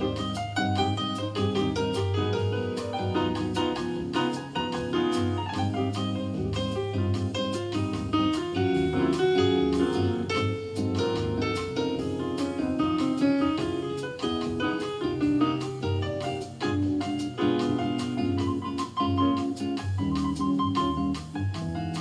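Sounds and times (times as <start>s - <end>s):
piano music with drums: 0.0s - 22.0s.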